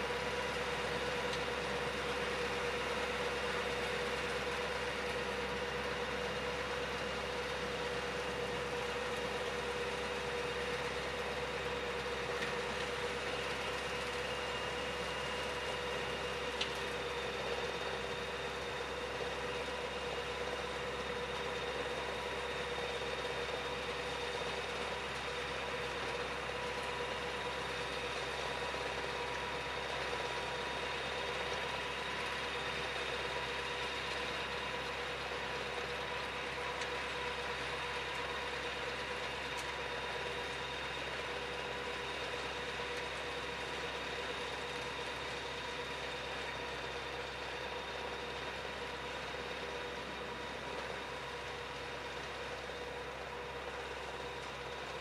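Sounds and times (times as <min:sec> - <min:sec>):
distant tractor engine drone: 0:00.0 - 0:55.0.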